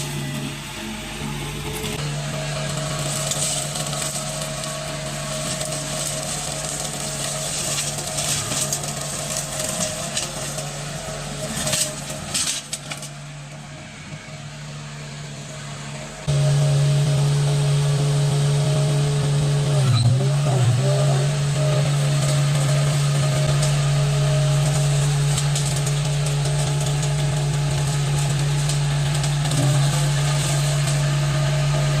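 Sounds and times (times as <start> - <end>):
skid steer loader engine running: 0.0 - 32.0.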